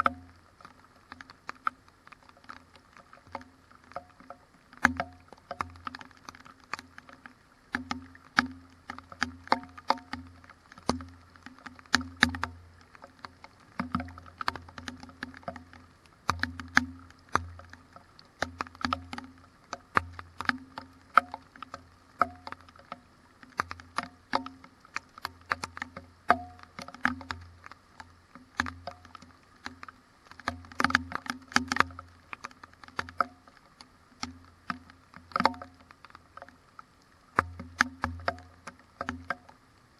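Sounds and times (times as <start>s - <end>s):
raindrops ticking on camera: 0.0s - 39.9s.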